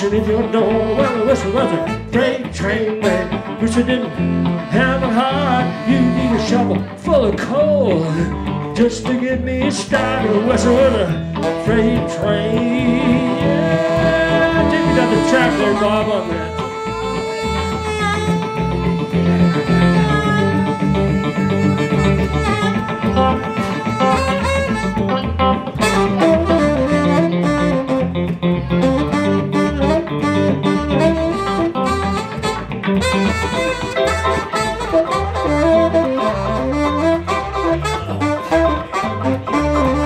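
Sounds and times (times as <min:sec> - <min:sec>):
electric bass: 0:00.0 - 0:40.0
electric guitar: 0:00.0 - 0:40.0
saxophone: 0:00.0 - 0:40.0.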